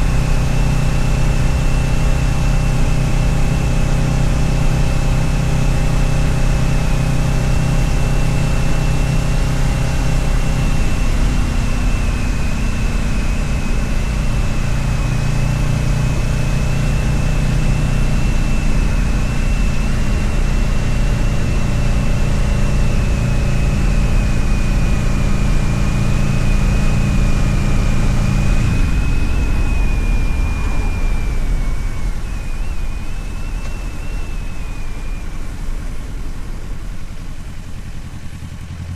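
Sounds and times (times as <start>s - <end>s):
wind noise: 0.0s - 38.3s
motorcycle engine running: 0.0s - 38.9s.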